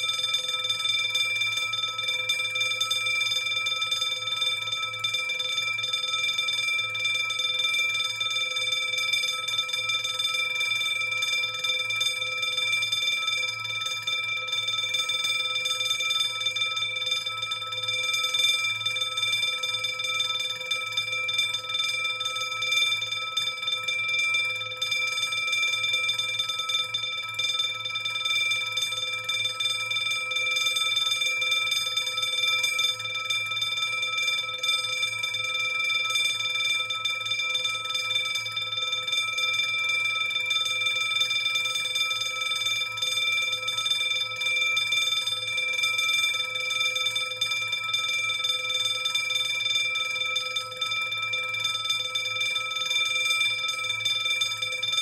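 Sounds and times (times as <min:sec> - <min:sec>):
alarm bell ringing: 0:00.0 - 0:55.0.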